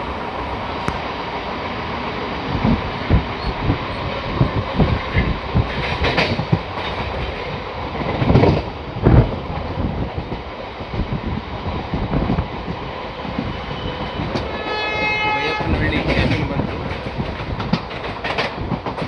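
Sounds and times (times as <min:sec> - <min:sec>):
train wheels clattering on rails: 0:02.4 - 0:19.0.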